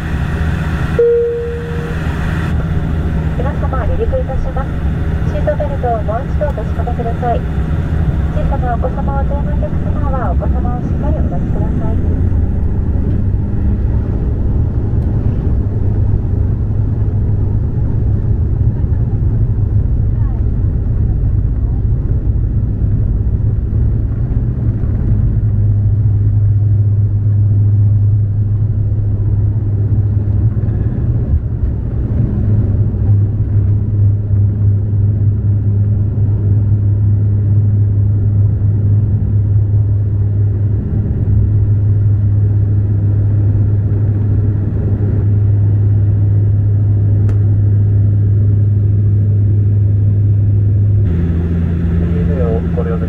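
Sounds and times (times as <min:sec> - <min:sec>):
engine rumble: 0:00.0 - 0:53.0
turboprop propeller drone: 0:00.0 - 0:53.0.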